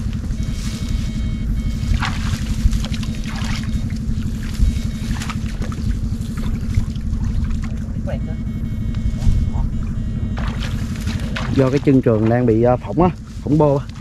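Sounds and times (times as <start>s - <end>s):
small engine running: 0.0s - 14.0s
water splashing: 0.0s - 14.0s.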